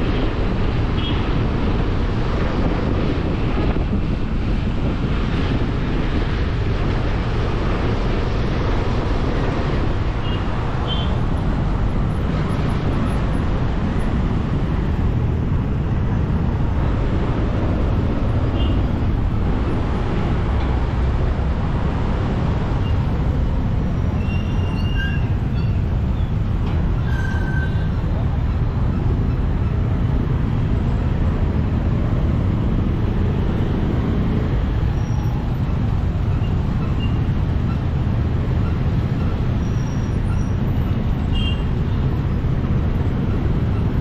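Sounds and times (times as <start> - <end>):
street traffic: 0.0 - 44.0
wind rumble on microphone: 0.0 - 44.0.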